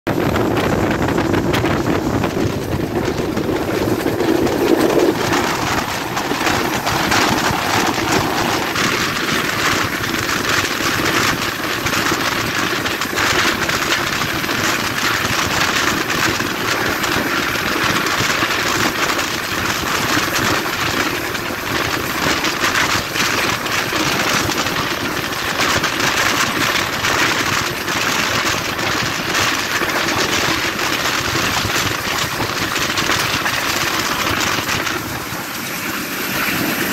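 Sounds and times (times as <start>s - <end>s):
train clicks and rattles: 0.1s - 36.9s
train wheels rumbling on rails: 0.1s - 36.9s.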